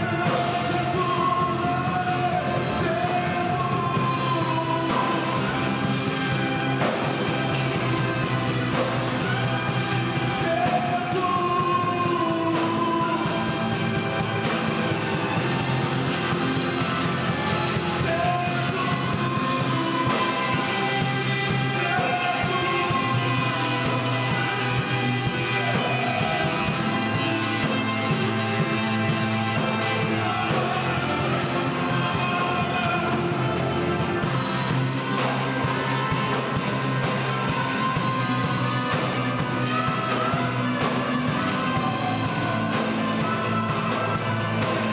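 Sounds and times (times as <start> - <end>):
person singing: 0.0 - 44.9
rock worship band playing: 0.0 - 44.9
steady drum beat: 0.0 - 44.9.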